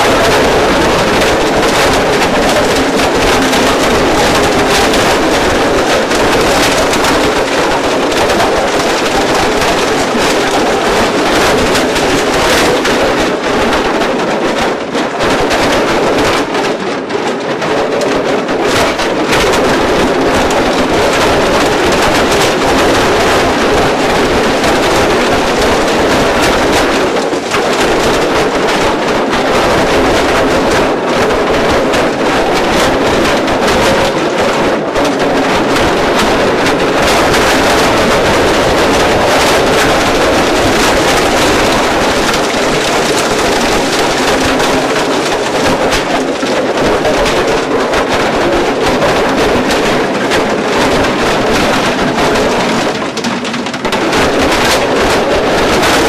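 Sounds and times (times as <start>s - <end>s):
shredder crunching plastic: 0.0s - 56.0s.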